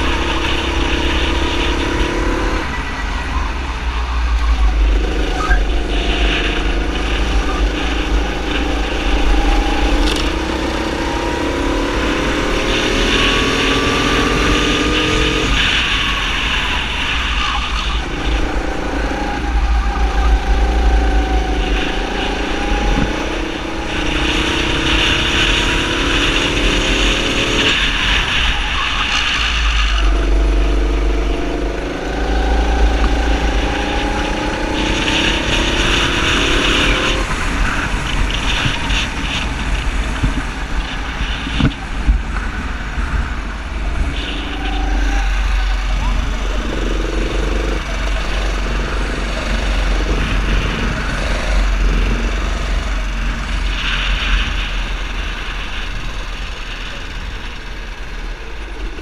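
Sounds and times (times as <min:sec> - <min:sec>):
racing kart engine revving: 0:00.0 - 0:59.0
wind rumble on microphone: 0:00.0 - 0:59.0.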